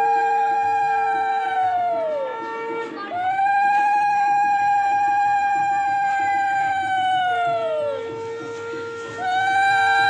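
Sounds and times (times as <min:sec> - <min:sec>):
high conch shell note: 0:00.0 - 0:10.0
low conch shell note: 0:00.0 - 0:10.0.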